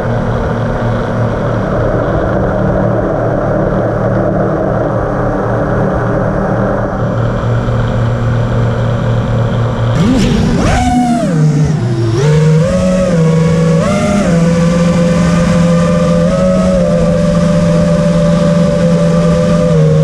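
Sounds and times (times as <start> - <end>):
drone motors humming: 0.0 - 20.0.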